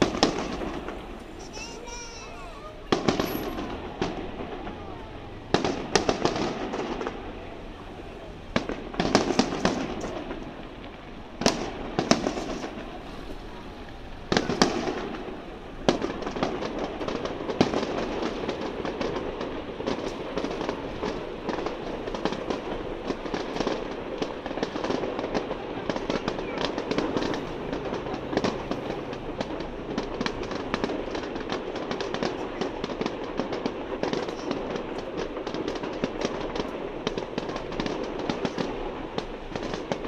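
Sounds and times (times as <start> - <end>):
fireworks bursting with bangs: 0.0 - 40.0
fireworks crackling: 0.0 - 40.0.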